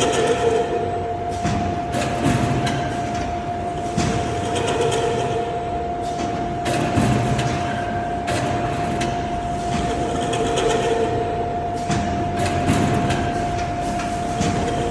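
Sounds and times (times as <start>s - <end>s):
machine humming: 0.0s - 14.9s.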